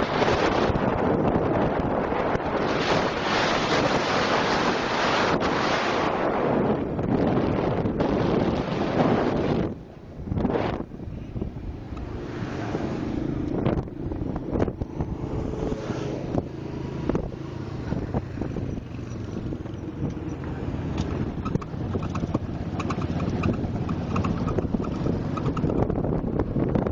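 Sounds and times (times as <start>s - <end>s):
vehicle rumble: 0.0s - 26.9s
wind buffeting microphone: 0.0s - 26.9s.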